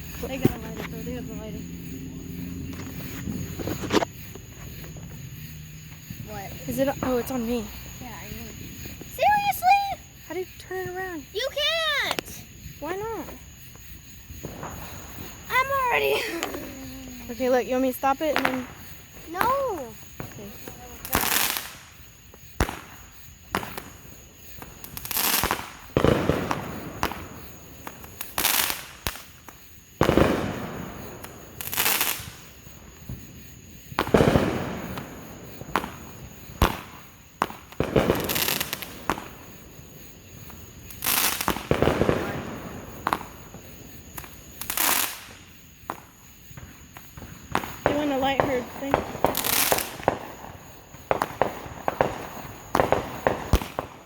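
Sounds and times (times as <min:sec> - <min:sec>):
fireworks cracks and booms: 0:00.0 - 0:54.0.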